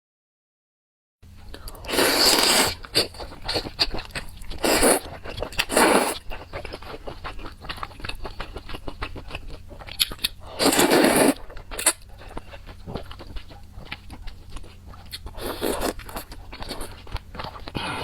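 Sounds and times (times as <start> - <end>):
wet chewing and crunching: 1.5 - 18.0.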